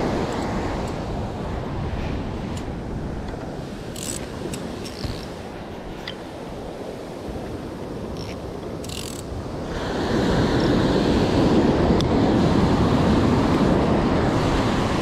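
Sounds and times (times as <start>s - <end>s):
ocean surf breaking on shore: 0.0s - 15.0s.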